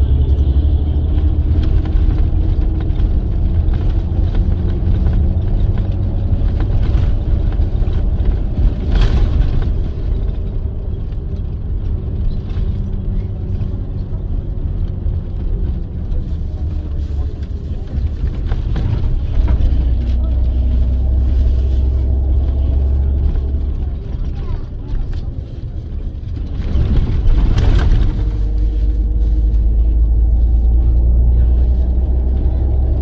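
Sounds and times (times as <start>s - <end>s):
bus engine running: 0.0s - 33.0s
road rumble: 0.0s - 33.0s.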